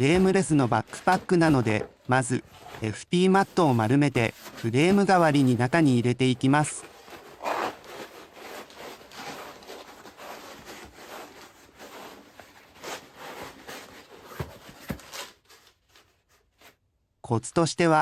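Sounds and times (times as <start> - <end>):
foam rubbing against nylon: 0.0 - 15.4.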